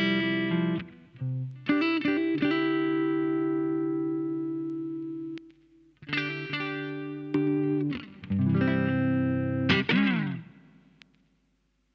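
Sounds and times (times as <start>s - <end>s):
electric guitar notes: 0.0s - 5.4s, 6.0s - 10.7s.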